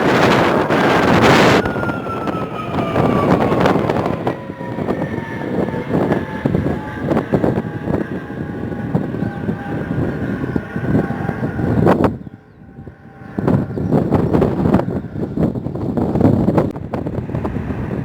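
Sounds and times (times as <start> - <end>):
jet engines passing: 0.0 - 18.0
wind buffeting microphone: 0.0 - 18.0.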